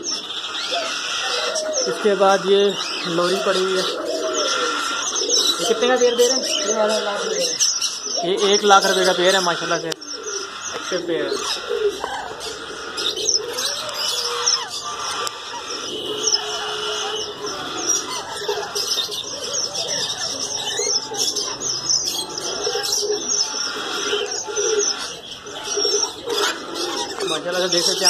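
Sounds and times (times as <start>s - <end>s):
caged birds chirping and calling: 0.0s - 28.0s.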